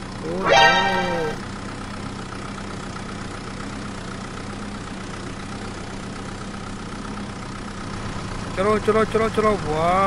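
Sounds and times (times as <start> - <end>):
engine-like idling hum: 1.4 - 10.0.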